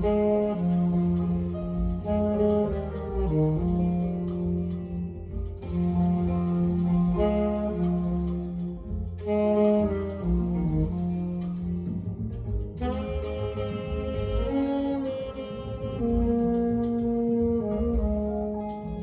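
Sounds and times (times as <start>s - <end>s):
low sustained bass: 0.0s - 19.0s
saxophone long held notes: 0.0s - 19.0s.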